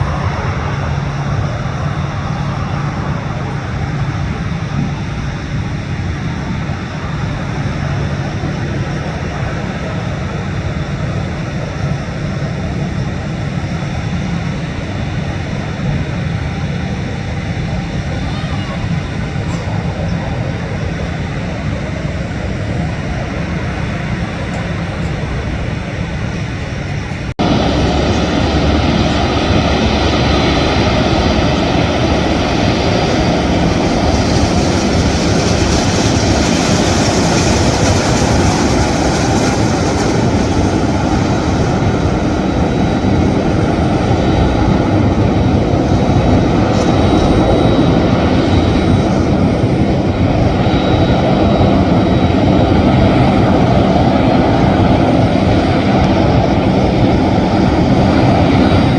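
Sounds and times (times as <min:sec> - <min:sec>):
jet engines rushing: 0:00.0 - 0:58.9.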